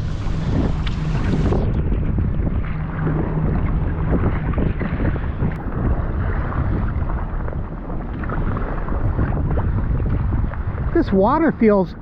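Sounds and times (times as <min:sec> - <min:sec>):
low steady hum: 0:00.0 - 0:12.0
waves and paddle splashing: 0:00.0 - 0:12.0
wind buffeting microphone: 0:00.0 - 0:12.0.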